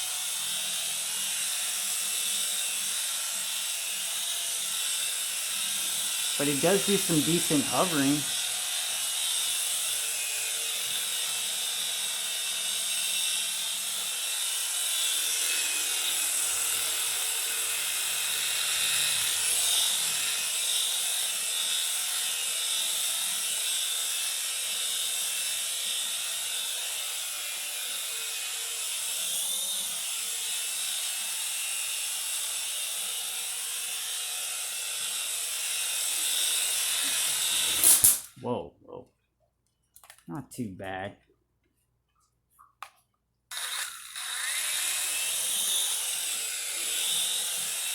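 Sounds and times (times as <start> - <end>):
toy helicopter motors whining: 0.0 - 38.2, 43.5 - 47.9.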